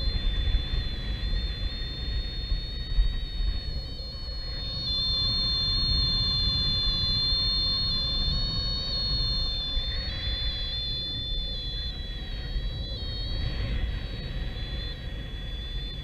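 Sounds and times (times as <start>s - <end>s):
thin high whistle: 0.0s - 16.0s.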